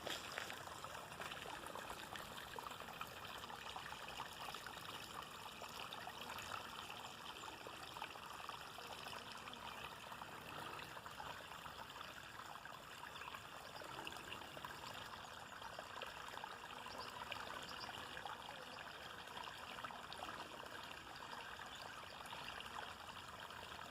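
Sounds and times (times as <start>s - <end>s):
trickling water: 0.0s - 23.9s.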